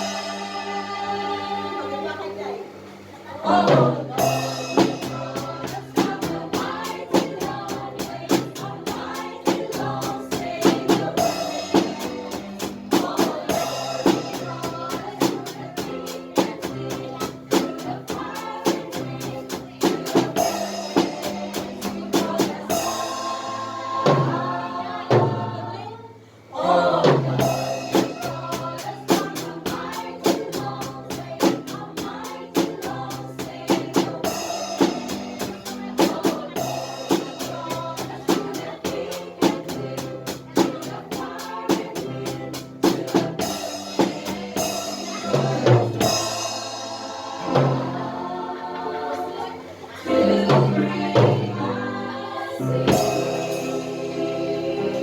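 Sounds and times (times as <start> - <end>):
drum kit playing: 0.0 - 2.0, 3.5 - 25.8, 26.7 - 55.0
song with singing: 0.0 - 55.0.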